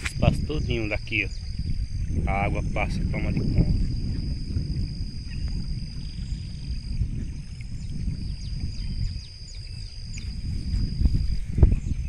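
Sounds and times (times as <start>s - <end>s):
high-pitched insect drone: 0.0s - 12.0s
wind on microphone: 0.0s - 12.0s.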